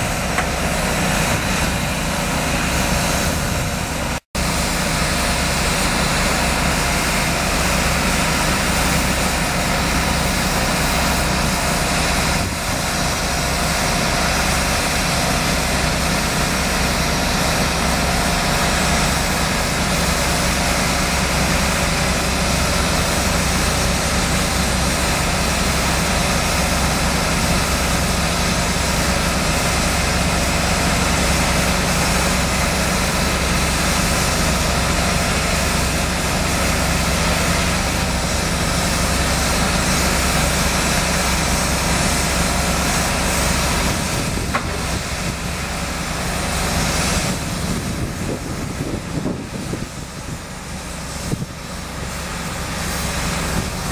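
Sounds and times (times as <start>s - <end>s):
heavy machinery engine hum: 0.0s - 53.9s.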